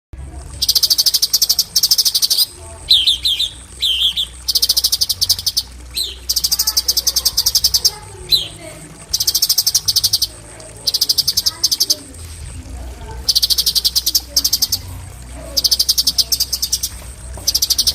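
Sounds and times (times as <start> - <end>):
bird singing fast trills: 0.6 - 12.0, 13.3 - 14.9, 15.6 - 17.9.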